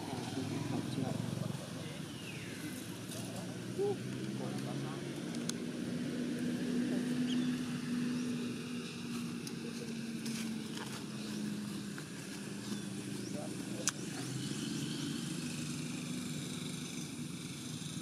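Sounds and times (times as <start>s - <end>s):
engine hum: 0.0s - 18.0s.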